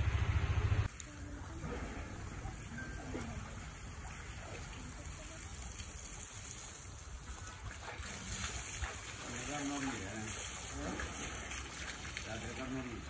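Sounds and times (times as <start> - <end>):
hose water splashing: 0.8 - 13.0.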